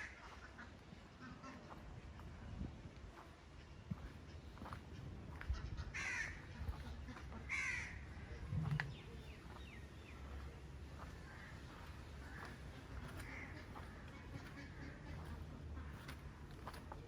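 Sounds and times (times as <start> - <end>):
bird calling: 3.2 - 17.0.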